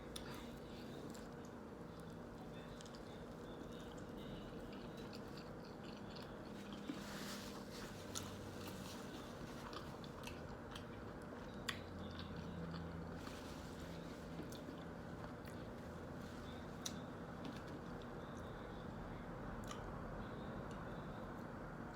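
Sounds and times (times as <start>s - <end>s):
faint low hum: 0.0s - 21.9s.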